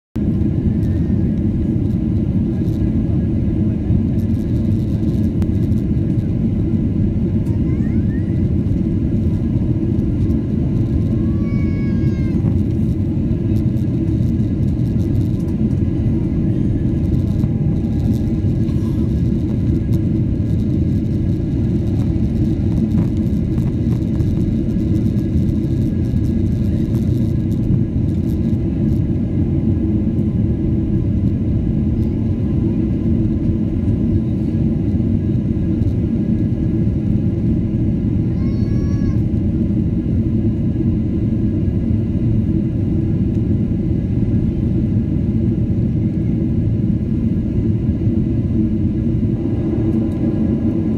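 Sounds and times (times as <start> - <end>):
jet engine cabin rumble: 0.2 - 50.9.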